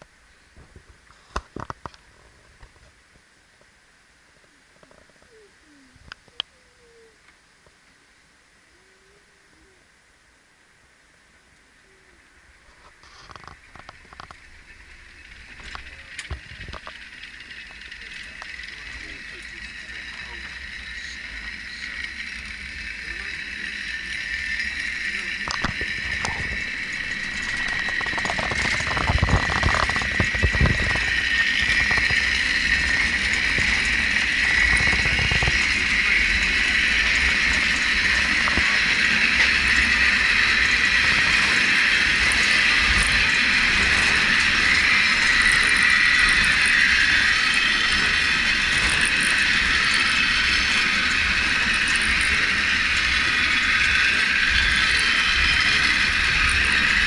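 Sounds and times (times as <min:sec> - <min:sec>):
railway car rolling whir and rattle: 0:00.0 - 0:57.0.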